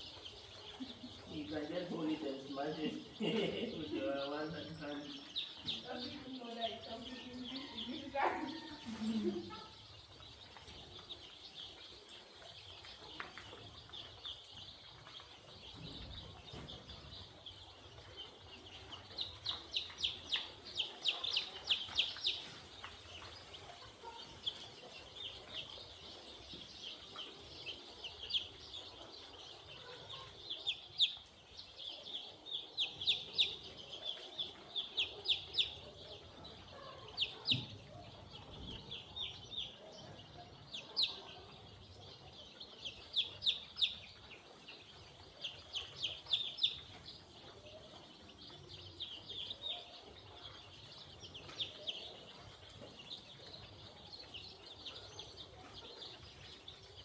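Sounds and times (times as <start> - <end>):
young chickens peeping: 0.0 - 57.0.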